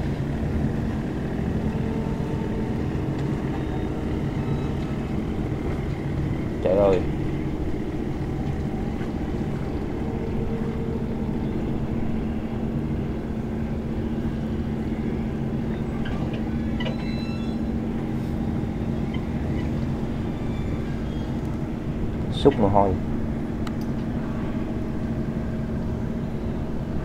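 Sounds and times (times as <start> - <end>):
diesel engines droning: 0.0 - 27.0.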